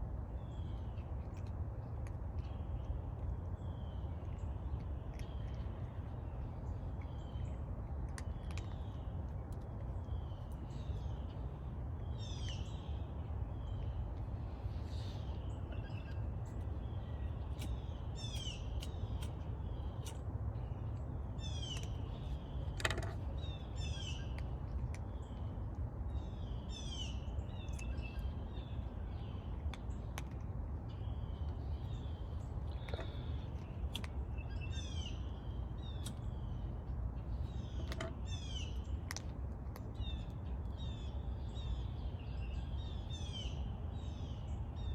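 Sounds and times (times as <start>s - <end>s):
birds chirping: 2.4s - 44.9s.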